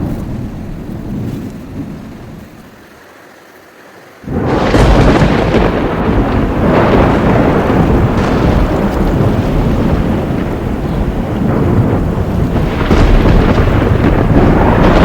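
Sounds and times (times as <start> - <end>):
thunder crack and rumble: 0.0 - 2.9, 4.2 - 15.0.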